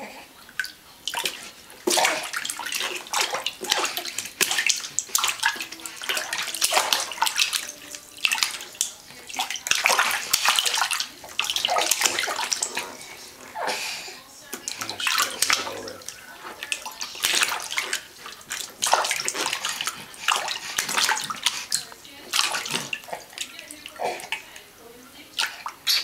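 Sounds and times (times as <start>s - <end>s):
baby splashing bathwater: 0.0s - 26.0s.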